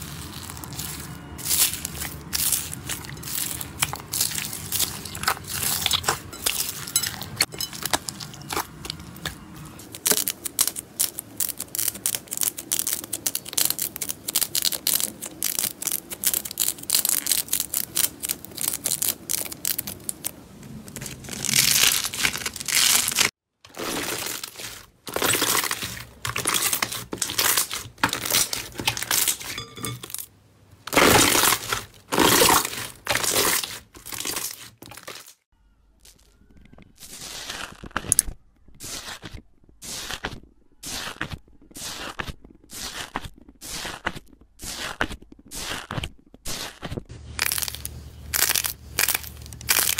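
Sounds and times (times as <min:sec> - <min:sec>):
slime squishing: 0:00.0 - 0:29.8, 0:30.9 - 0:35.4, 0:36.0 - 0:49.9
crunchy slime crackling: 0:00.0 - 0:30.2, 0:30.9 - 0:49.9.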